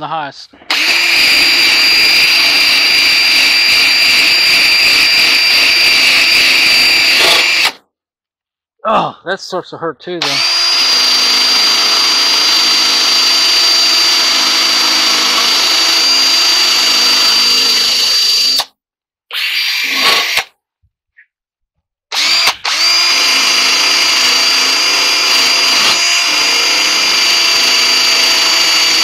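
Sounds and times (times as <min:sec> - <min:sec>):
drill with wire wheel on metal: 0:00.6 - 0:07.8, 0:10.2 - 0:20.6, 0:22.1 - 0:29.0.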